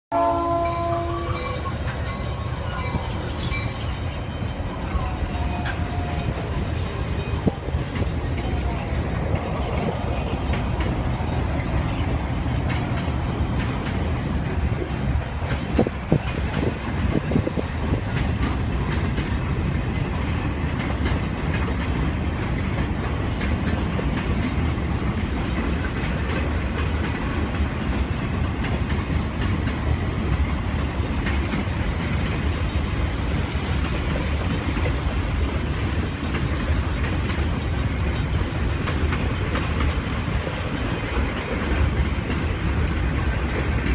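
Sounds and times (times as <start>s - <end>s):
railroad cars rumbling past: 0.1s - 43.9s
wheels clattering over rails: 0.5s - 43.9s.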